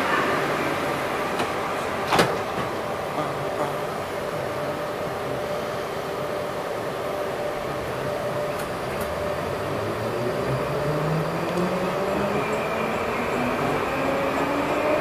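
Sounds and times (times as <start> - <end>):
low whine of train pulling away: 0.0 - 15.0
train equipment humming: 0.0 - 15.0.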